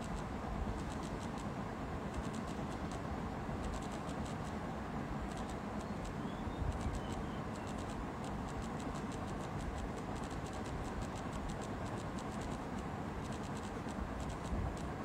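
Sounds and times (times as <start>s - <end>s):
faint irregular ticks: 0.0s - 4.6s, 5.2s - 15.0s
steady background noise: 0.0s - 15.0s.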